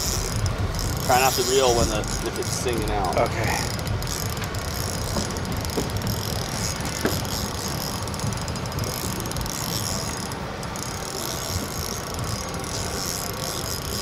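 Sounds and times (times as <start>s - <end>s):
fishing reel drag clicking: 0.0s - 14.0s.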